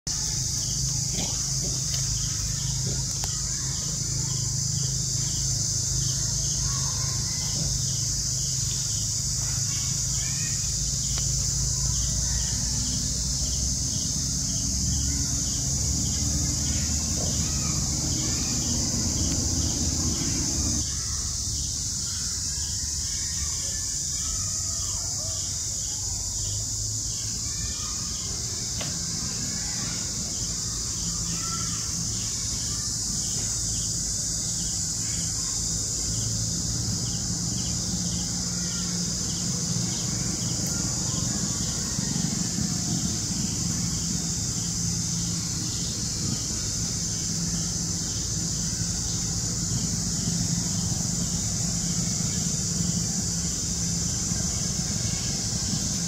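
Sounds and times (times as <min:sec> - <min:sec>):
faint chirps: 0:00.1 - 0:56.0
insects droning: 0:00.1 - 0:56.0.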